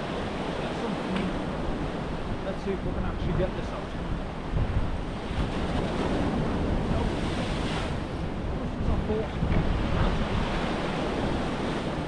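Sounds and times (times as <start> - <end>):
sea waves on rocky shore: 0.0 - 12.0
wind on microphone: 0.0 - 12.0.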